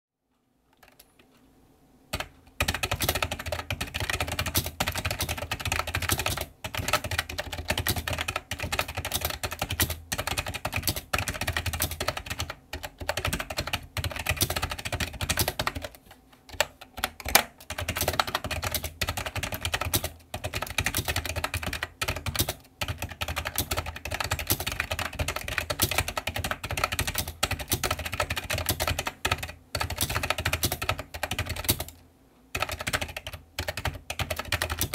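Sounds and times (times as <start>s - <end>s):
rapid keyboard key clicks: 0.8s - 1.3s, 2.1s - 34.9s.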